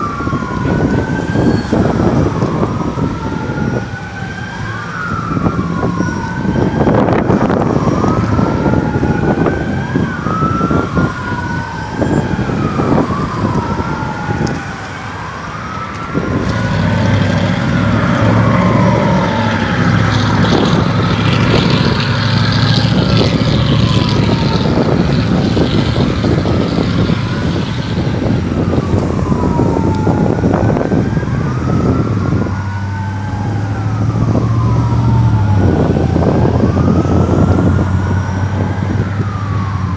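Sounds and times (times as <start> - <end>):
emergency vehicle sirens wailing: 0.0 - 39.9.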